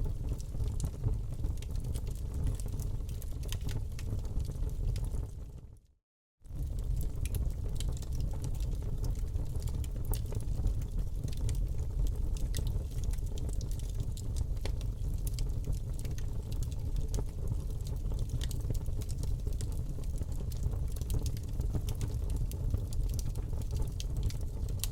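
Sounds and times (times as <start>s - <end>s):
burning wood crackling and popping: 0.0s - 5.4s, 6.5s - 24.9s
low rumble of flames: 0.0s - 5.8s, 6.4s - 24.9s.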